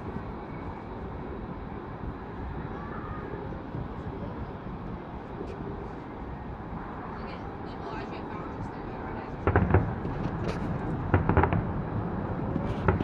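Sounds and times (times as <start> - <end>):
distant city noise: 0.0 - 13.0
wind rumble: 0.0 - 13.0.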